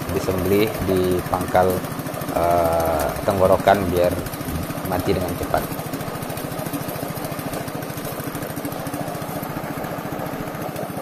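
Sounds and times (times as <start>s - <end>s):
small petrol engine puttering: 0.0s - 11.0s.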